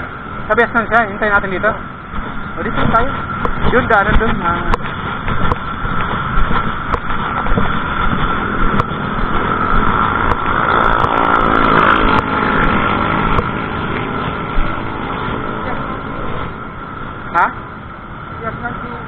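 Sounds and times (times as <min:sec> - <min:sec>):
road traffic noise: 0:00.0 - 0:19.0
vehicle engine passing: 0:00.0 - 0:19.0.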